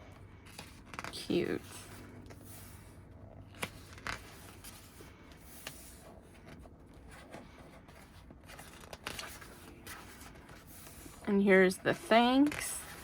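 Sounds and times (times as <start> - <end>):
pages being turned: 0.3 - 11.3.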